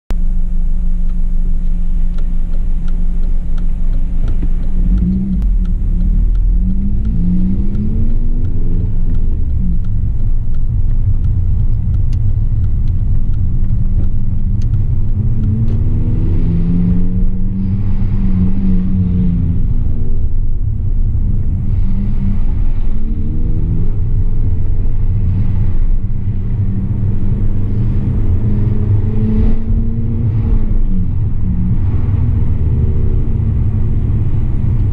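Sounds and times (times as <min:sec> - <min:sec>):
car engine revving from inside cabin: 0:00.2 - 0:34.9.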